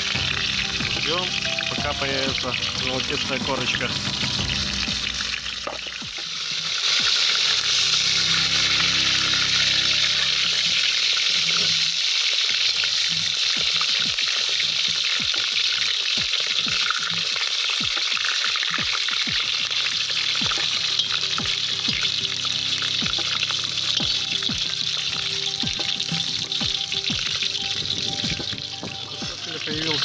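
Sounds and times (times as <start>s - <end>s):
potatoes sizzling in hot oil: 0.0s - 30.0s.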